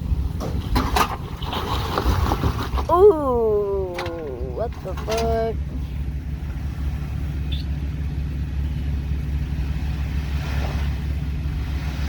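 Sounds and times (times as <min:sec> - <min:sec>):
engine idling low rumble: 0:00.0 - 0:12.0.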